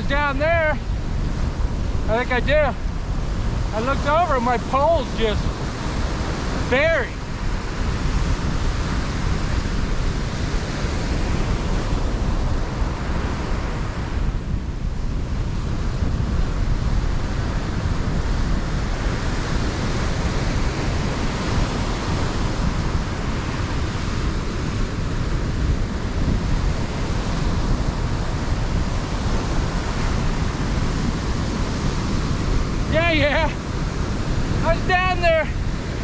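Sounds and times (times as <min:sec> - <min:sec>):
surf washing onto sandy beach: 0:00.0 - 0:36.0
wind buffeting the microphone: 0:00.0 - 0:36.0.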